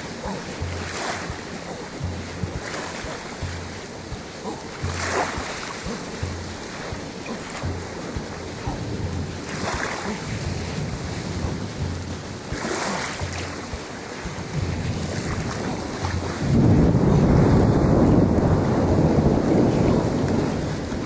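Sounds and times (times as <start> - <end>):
rushing water: 0.0 - 21.0
wind buffeting microphone: 0.0 - 21.0.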